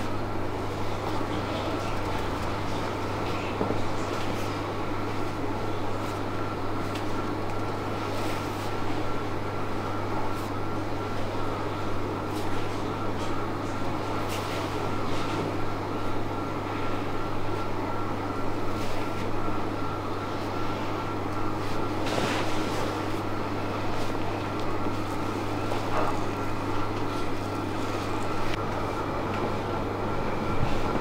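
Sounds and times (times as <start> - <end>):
steady mechanical whir: 0.0 - 31.0.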